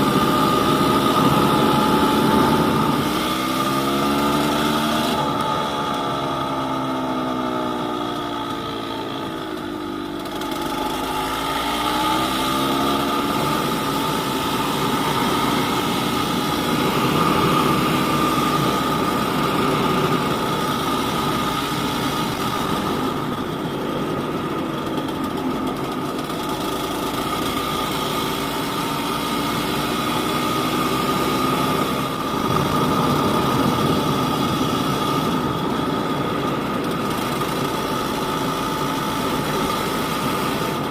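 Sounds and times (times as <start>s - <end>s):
two-stroke motorcycle engine revving: 0.0s - 40.9s.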